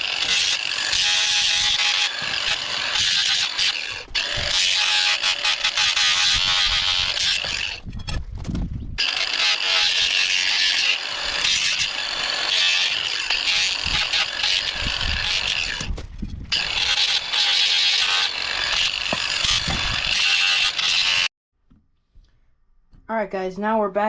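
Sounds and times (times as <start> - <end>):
power grinder grinding metal: 0.0 - 7.8, 9.0 - 21.3.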